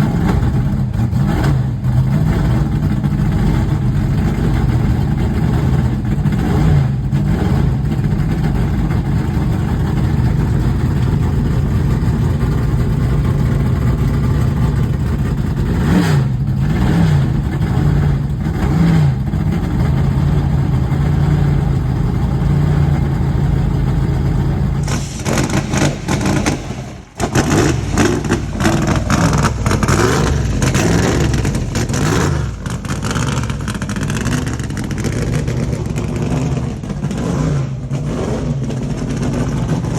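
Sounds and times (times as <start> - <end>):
race car engine idling and revving: 0.0 - 39.9.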